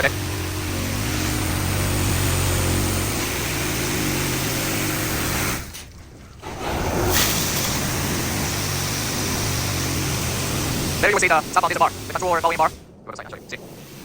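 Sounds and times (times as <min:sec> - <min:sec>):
car wash rushing noise: 0:00.0 - 0:14.0
low motor hum: 0:00.0 - 0:14.0.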